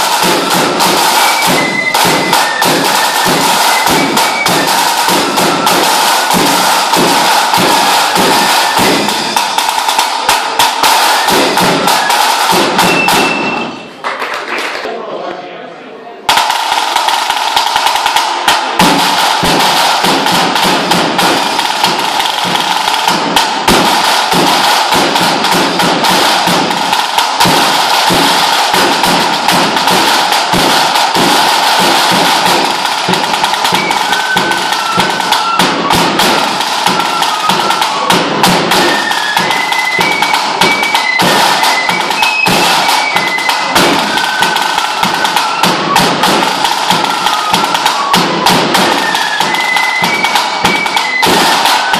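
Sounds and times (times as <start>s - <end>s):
large drum rattling strokes: 0.0s - 13.9s, 16.3s - 51.9s
fife tune: 0.0s - 14.0s, 16.3s - 51.9s.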